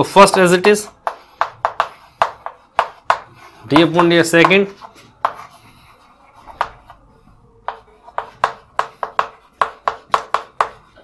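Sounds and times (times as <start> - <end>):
chalk tapping on blackboard: 0.0 - 7.0, 7.6 - 11.0.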